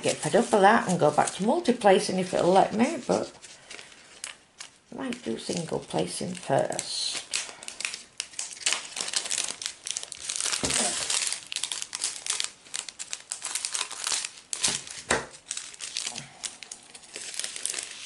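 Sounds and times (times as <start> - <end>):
metallic foil packets crinkling: 0.0 - 18.0.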